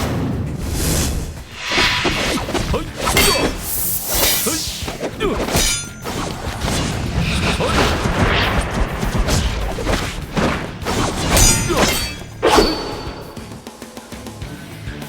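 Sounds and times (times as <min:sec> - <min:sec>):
whooshes: 0:00.0 - 0:13.7
dramatic background music: 0:00.0 - 0:14.8
fight impacts and crashes: 0:01.0 - 0:13.7.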